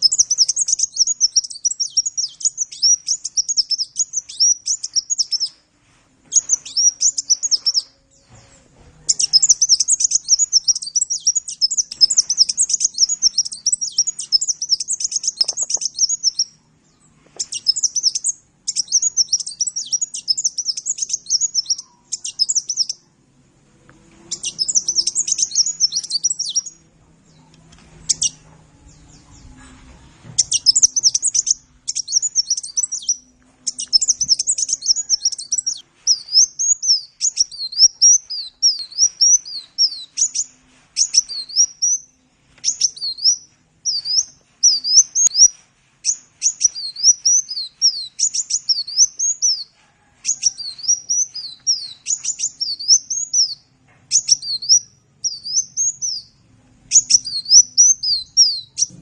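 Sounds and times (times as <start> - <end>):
bird twittering song: 0.0 - 5.6, 6.3 - 23.0, 24.3 - 59.0.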